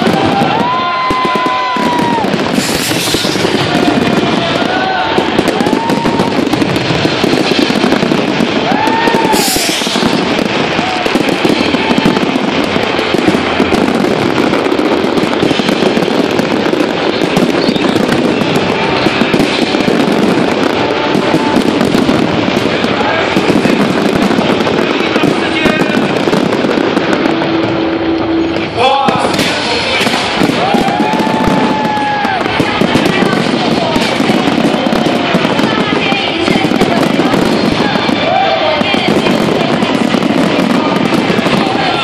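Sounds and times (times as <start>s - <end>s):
firework whistles: 0.0s - 42.0s
fireworks crackling and popping: 0.0s - 42.0s.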